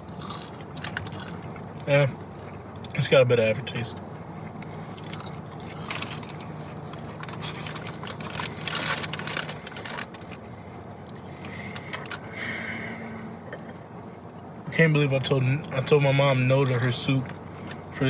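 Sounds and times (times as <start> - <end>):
car cabin engine hum: 0.0 - 18.0.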